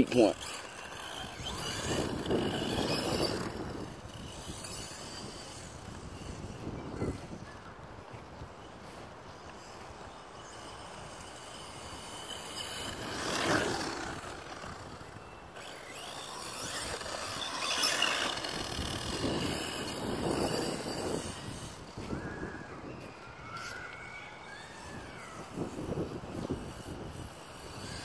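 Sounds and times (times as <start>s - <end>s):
electric toy truck motor whine: 0.0s - 7.5s, 9.4s - 28.0s.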